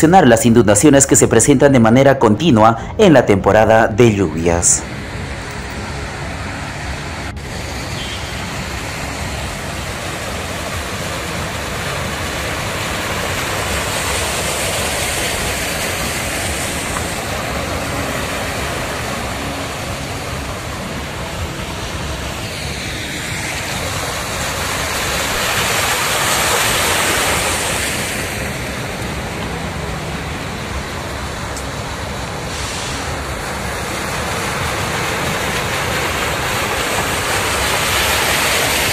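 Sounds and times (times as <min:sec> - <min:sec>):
tyres splashing through water: 0:05.0 - 0:38.9.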